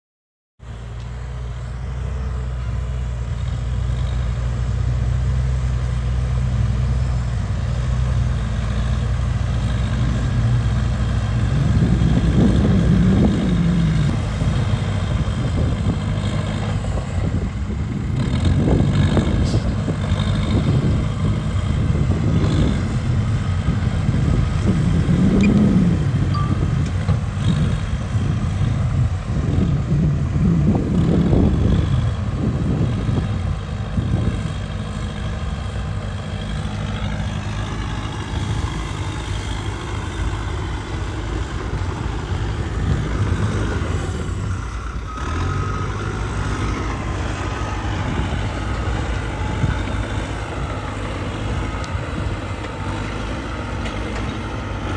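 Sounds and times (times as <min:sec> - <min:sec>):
bulldozer diesel engine: 0:00.6 - 0:54.9.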